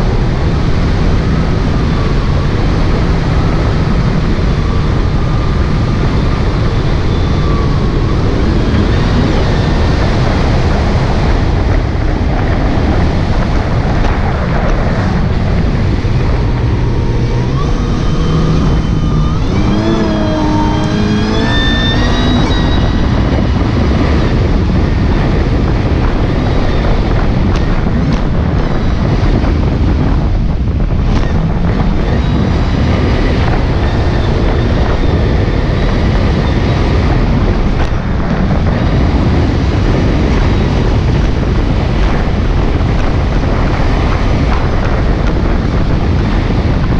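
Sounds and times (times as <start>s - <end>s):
jet ski engine: 0.0s - 46.9s
water rushing along hull: 0.0s - 46.9s
wind buffeting microphone: 0.0s - 46.9s.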